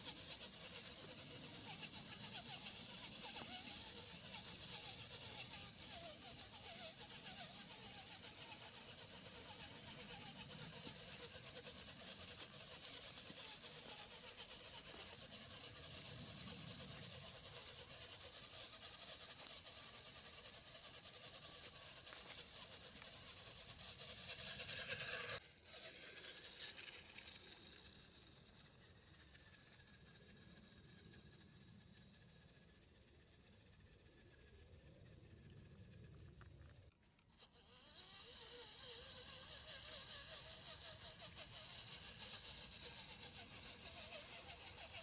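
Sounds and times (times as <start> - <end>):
toy car motor whining: 0.0 - 45.0.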